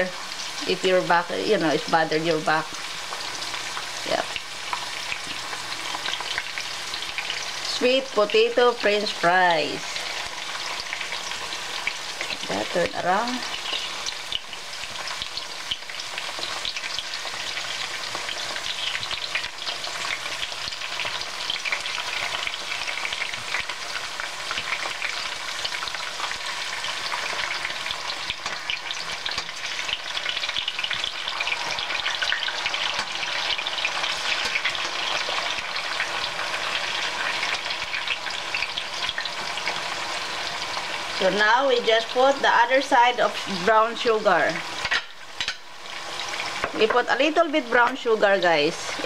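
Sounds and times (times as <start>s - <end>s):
turning food in a pan: 0.0s - 49.0s
wedges sizzling in hot oil: 0.0s - 49.0s.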